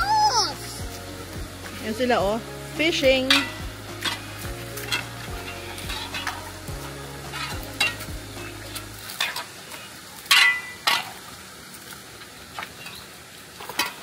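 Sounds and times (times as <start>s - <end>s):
steady hiss: 0.0s - 13.7s.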